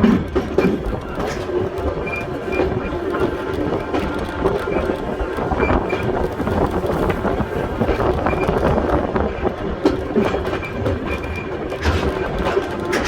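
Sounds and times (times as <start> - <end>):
rail joint clicks: 0.0 - 13.0
wheels rumbling on rail: 0.0 - 13.0.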